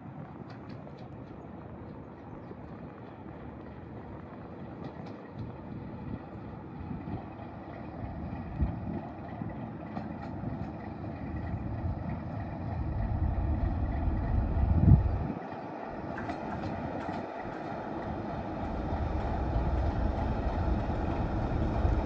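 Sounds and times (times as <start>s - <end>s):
diesel locomotive rumble: 0.0s - 22.0s.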